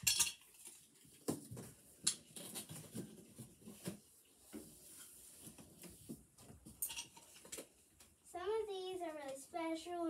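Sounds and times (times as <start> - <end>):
ornaments rustling and clicking: 0.0 - 8.2.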